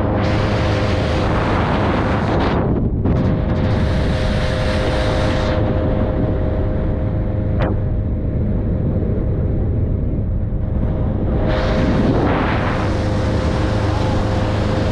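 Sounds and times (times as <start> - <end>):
boat motor running: 0.0 - 14.9.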